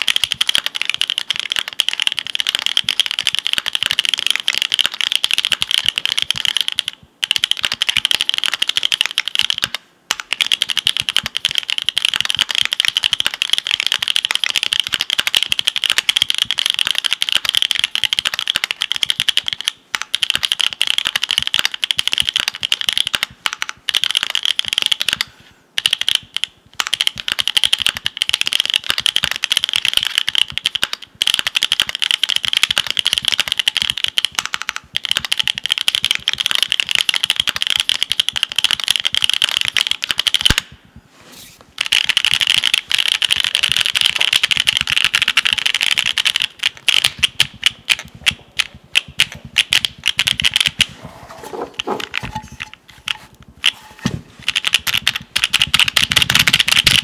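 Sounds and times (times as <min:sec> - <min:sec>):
fast mechanical keyboard typing: 0:00.0 - 0:40.7, 0:41.8 - 0:50.9, 0:51.5 - 0:57.0.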